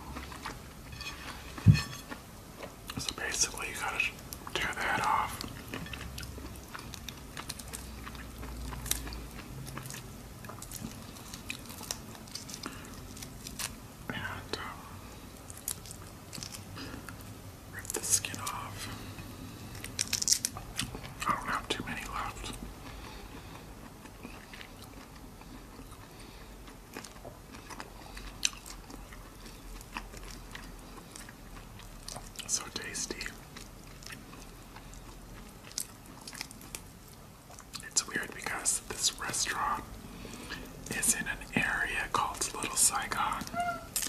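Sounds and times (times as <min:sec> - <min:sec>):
person chewing shrimp: 0:00.0 - 0:13.9, 0:14.6 - 0:17.4, 0:18.0 - 0:21.5, 0:22.1 - 0:44.0.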